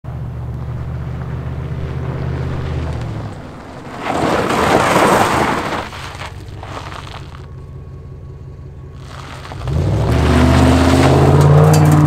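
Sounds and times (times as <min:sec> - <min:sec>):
car engine rumbling: 0:00.0 - 0:12.0
tyres sliding on gravel: 0:00.3 - 0:12.0.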